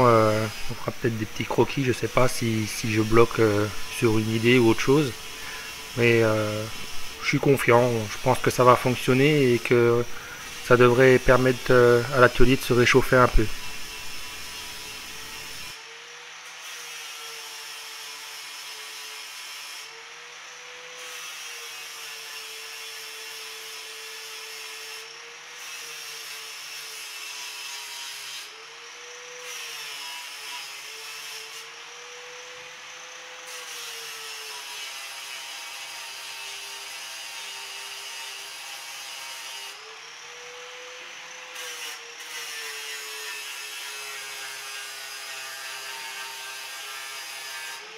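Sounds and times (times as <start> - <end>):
angle grinder grinding metal: 0.0 - 47.9.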